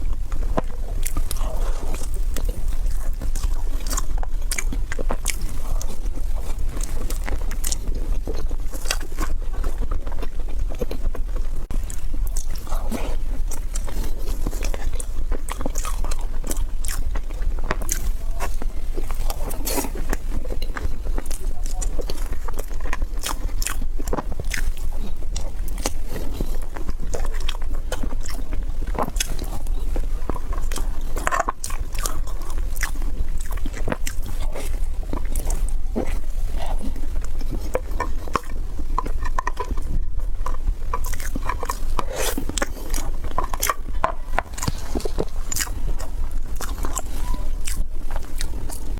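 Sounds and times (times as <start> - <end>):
person chewing crunchy food: 0.0 - 48.9
steady low rumble: 0.0 - 48.9.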